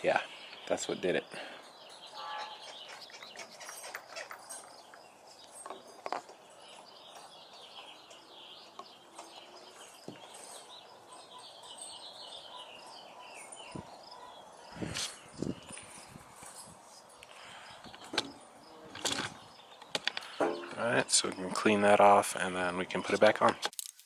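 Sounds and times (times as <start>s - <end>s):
small birds chirping: 0.0s - 23.7s.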